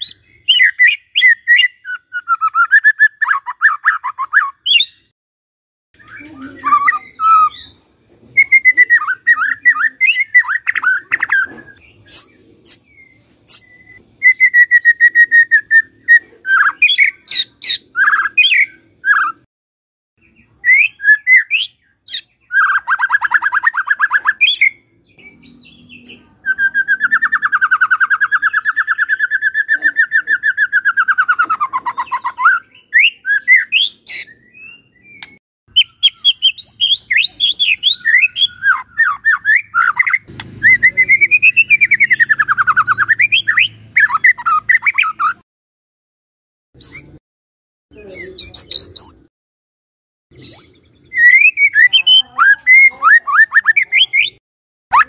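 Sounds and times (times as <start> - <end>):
bird singing whistled phrases: 0.0 - 5.1, 6.0 - 7.8, 8.4 - 19.4, 20.2 - 45.4, 46.8 - 47.2, 48.1 - 49.2, 50.4 - 55.0.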